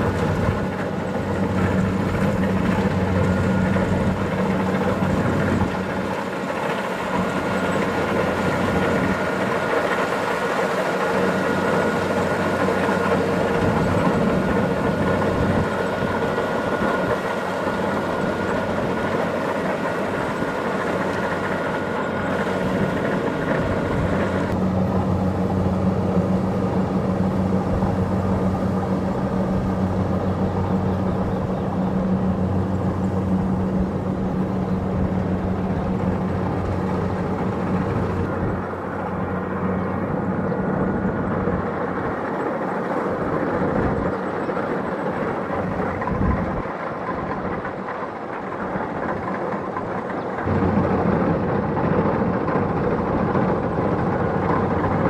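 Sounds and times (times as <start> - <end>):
diesel engine droning: 0.0 - 55.0
harvesting machinery clatter: 0.0 - 55.0.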